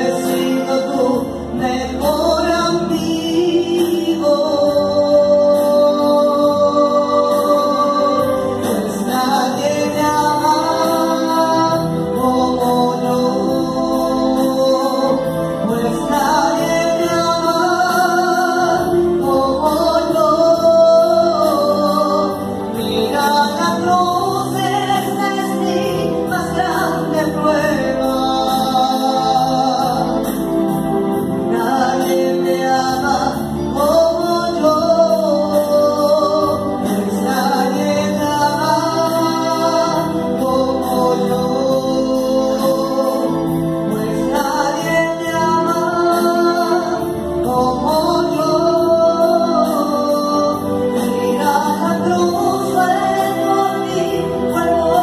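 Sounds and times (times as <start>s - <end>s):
electronic keyboard chords: 0.0s - 55.0s
woman singing into a microphone: 0.0s - 55.0s.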